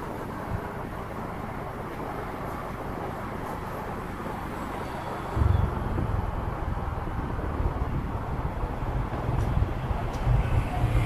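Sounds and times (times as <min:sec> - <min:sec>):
motorcycle engine rumble: 0:00.0 - 0:11.0
wind and road noise: 0:00.0 - 0:11.0.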